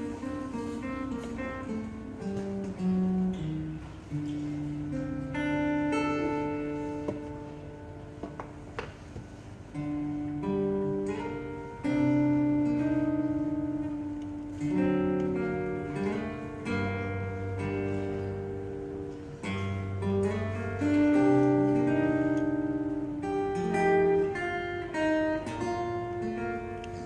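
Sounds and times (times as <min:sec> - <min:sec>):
fingerstyle acoustic guitar: 0:00.0 - 0:27.0.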